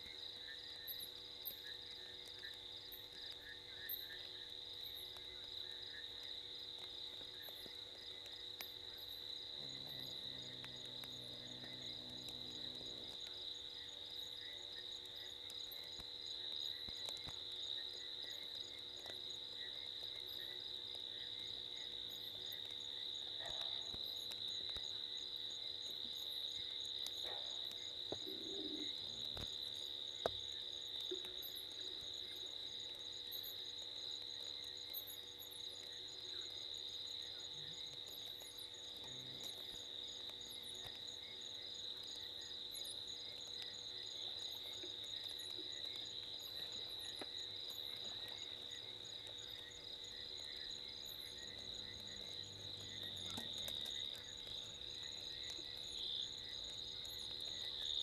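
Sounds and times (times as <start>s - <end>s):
crickets chirping: 0.0s - 58.0s
frogs calling faintly: 0.0s - 58.0s.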